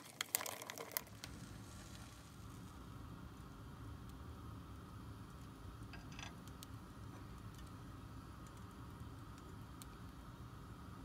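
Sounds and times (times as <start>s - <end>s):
low hum: 1.1s - 11.0s.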